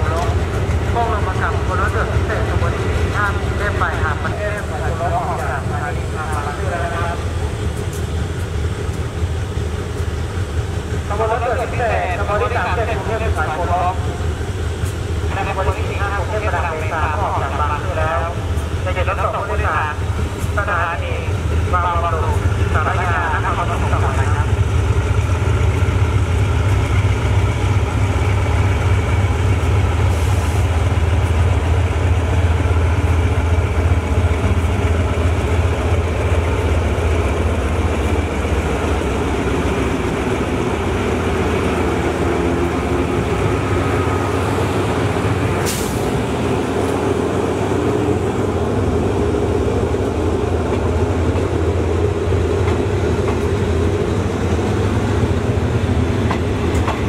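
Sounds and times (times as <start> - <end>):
diesel locomotive engine drone: 0.0 - 57.0
train coaches rolling on rails: 0.0 - 57.0.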